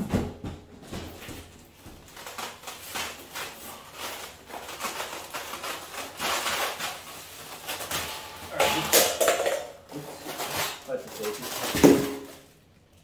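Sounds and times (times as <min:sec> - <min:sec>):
plastic bag rustling: 0:00.8 - 0:13.0.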